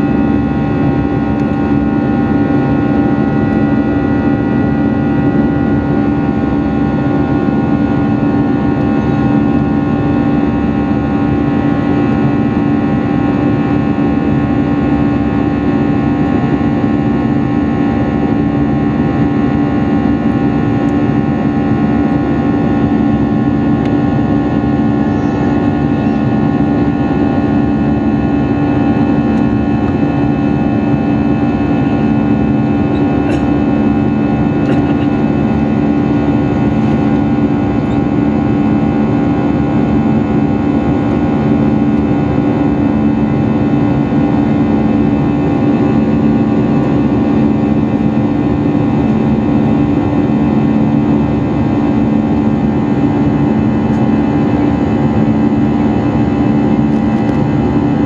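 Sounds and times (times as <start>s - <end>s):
aircraft cabin engine rush: 0.0s - 58.0s
multi-tone hum: 0.0s - 58.0s.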